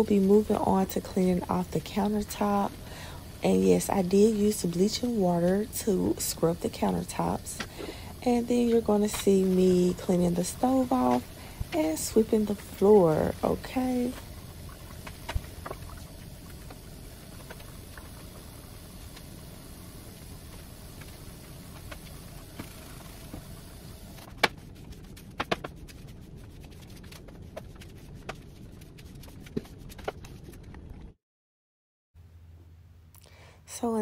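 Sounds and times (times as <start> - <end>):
low hum: 0.0 - 31.2.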